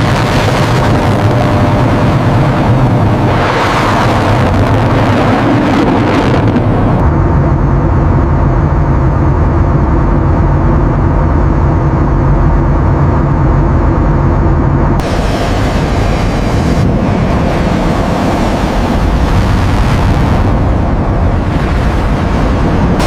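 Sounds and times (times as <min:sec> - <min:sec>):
jet aircraft engine rumbling: 0:00.0 - 0:23.0.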